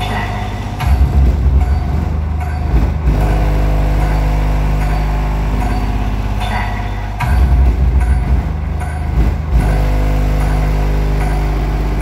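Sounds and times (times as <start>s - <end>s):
loud deep bass from car: 0.0s - 12.0s.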